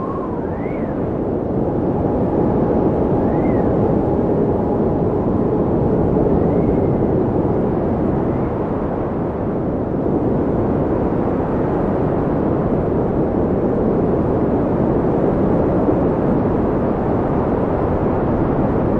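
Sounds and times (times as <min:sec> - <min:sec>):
steady wind: 0:00.0 - 0:18.9.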